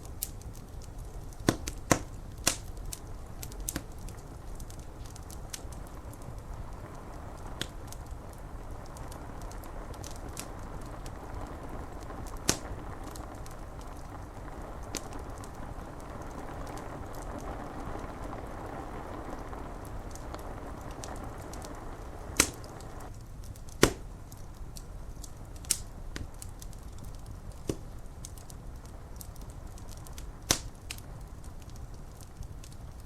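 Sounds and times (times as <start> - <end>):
loud fire pops: 0.0 - 33.0
rain on window glass: 0.0 - 33.0
wood fire crackling: 0.0 - 33.0.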